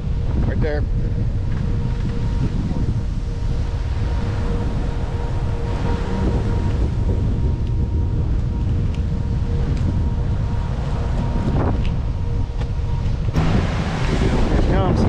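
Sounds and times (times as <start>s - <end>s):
faint steady tone: 0.0s - 14.8s
wind buffeting microphone: 0.0s - 15.0s
car driving: 1.0s - 15.0s.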